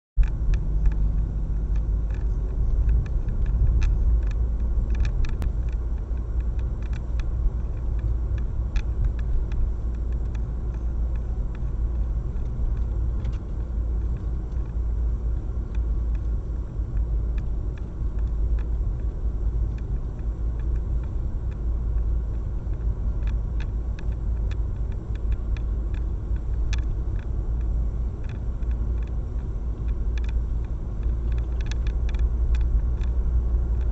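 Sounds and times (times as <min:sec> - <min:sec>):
car road and engine noise: 0:00.2 - 0:33.9
faint clicks: 0:00.2 - 0:33.9.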